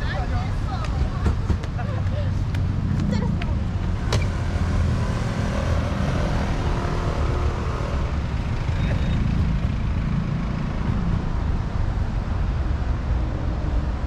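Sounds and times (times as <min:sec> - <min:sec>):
road traffic rumbling: 0:00.0 - 0:14.0.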